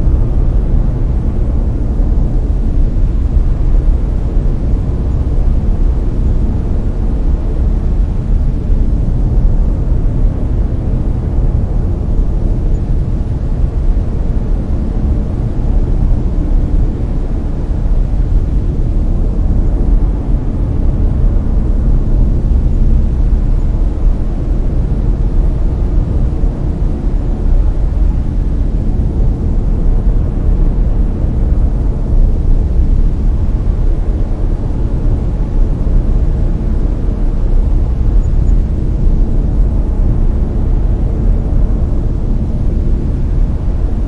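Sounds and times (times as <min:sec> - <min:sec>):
brown noise hiss: 0:00.0 - 0:44.0.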